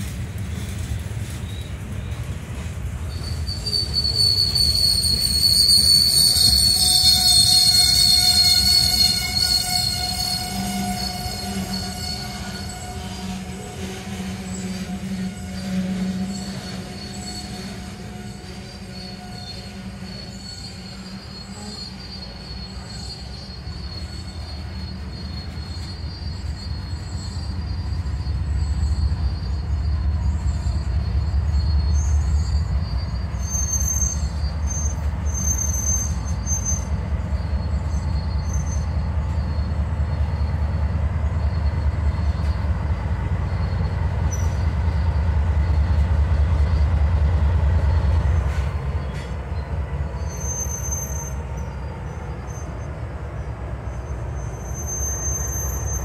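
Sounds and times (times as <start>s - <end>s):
diesel locomotives: 0.0s - 56.0s
train wheels rumbling on rail: 0.0s - 56.0s
high wheel squeal: 0.5s - 56.0s.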